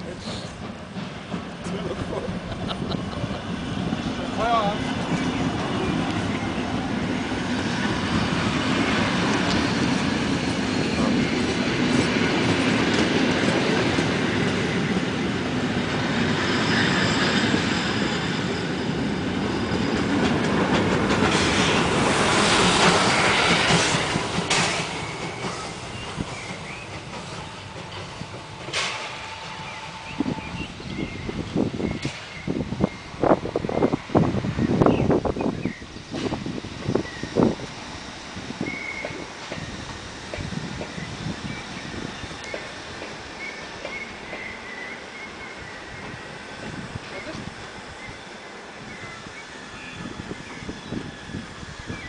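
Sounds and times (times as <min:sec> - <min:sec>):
train coaches rolling over rail joints: 0:00.0 - 0:16.4, 0:18.1 - 0:52.0.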